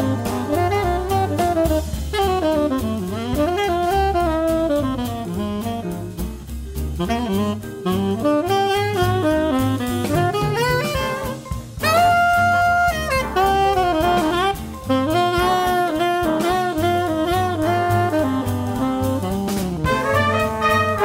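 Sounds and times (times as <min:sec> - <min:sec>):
big-band swing jazz: 0:00.0 - 0:21.0
tenor saxophone soloing: 0:00.0 - 0:21.0.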